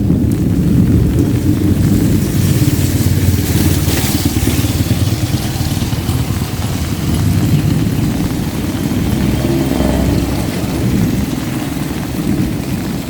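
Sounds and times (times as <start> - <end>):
low rumble: 0.0 - 13.0
rain falling: 0.0 - 13.0.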